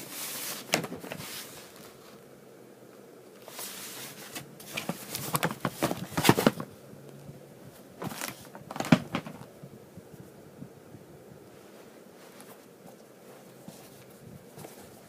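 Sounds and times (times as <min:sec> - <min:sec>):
handling noise crackling and rustling: 0:00.0 - 0:02.3, 0:03.3 - 0:10.4, 0:11.4 - 0:15.0.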